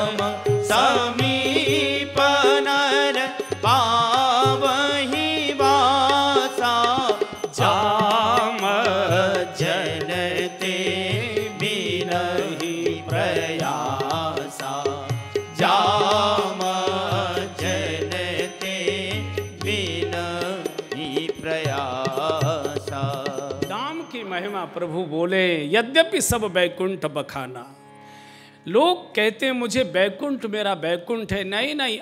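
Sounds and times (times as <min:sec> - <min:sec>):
person chanting devotional verse: 0:00.0 - 0:27.9.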